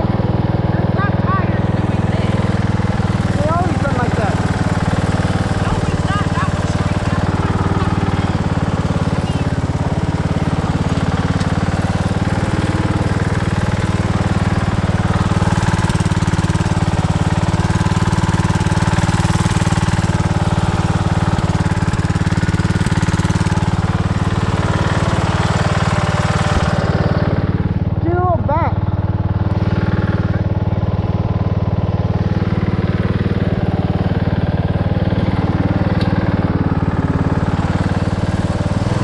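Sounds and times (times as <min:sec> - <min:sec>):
riding lawn mower engine running: 0:00.0 - 0:39.0.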